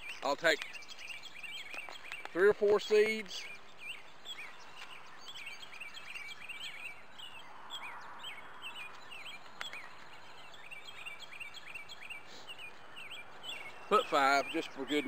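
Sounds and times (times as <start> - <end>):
faint outdoor hiss: 0.0 - 15.0
small birds chirping: 0.0 - 15.0.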